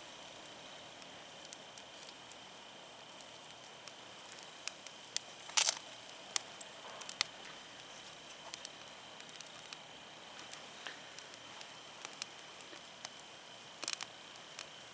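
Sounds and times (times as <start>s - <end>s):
campfire crackling: 0.0s - 14.9s.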